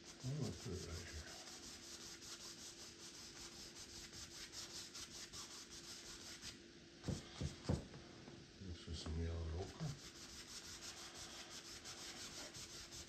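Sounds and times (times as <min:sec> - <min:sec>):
paintbrush scrubbing on canvas: 0:00.0 - 0:07.8, 0:09.6 - 0:13.0.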